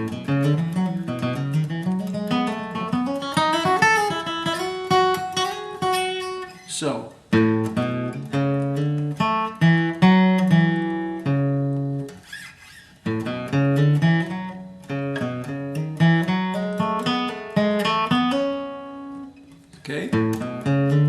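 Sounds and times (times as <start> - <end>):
acoustic guitar flatpicking lead: 0.0 - 21.0.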